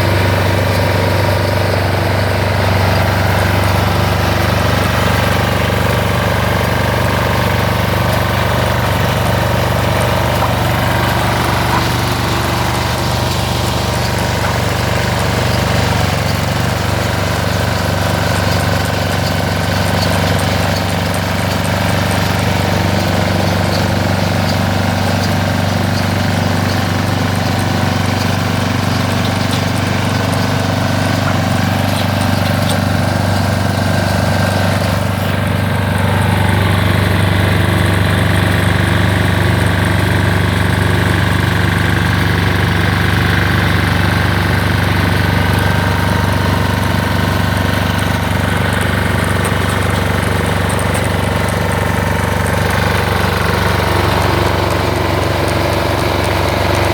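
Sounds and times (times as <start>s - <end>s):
straw baler diesel engine running: 0.0s - 56.9s.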